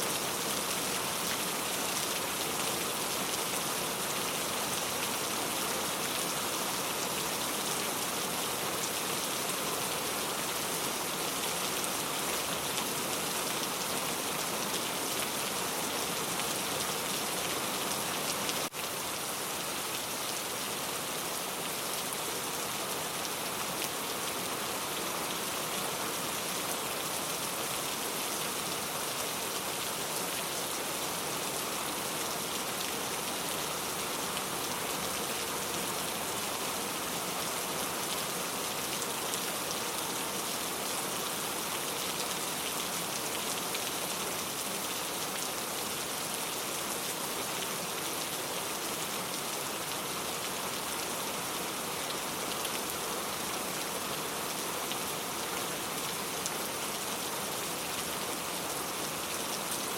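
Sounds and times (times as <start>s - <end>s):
rain falling on a surface: 0.0s - 59.9s.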